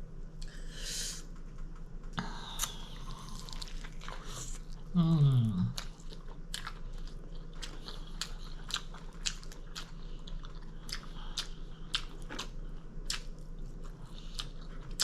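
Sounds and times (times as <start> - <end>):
person chewing food: 2.1 - 15.0.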